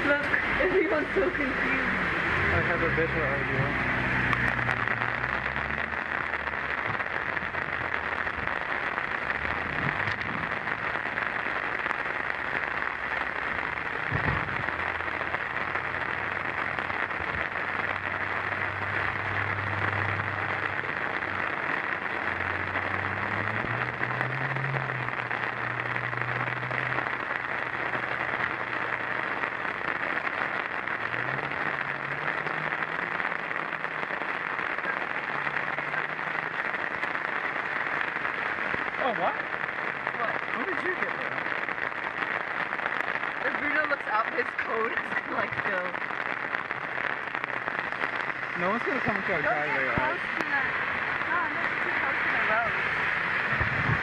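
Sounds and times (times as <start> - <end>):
hail pattering on roofs: 0.0 - 54.0.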